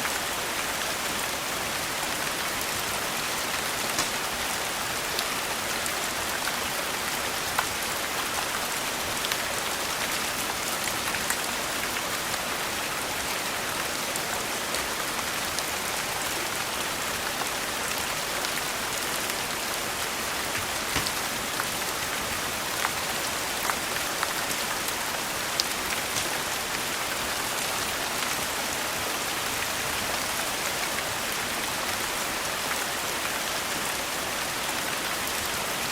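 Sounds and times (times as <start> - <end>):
steady rain: 0.0 - 35.9.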